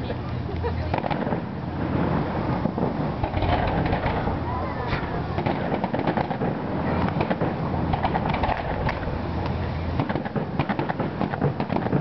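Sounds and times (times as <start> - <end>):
steady low rumble: 0.0 - 12.0
fireworks pops and cracks: 0.9 - 12.0.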